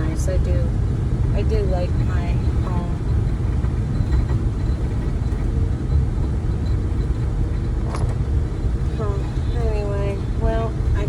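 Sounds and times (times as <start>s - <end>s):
vehicle road rumble: 0.0s - 11.0s.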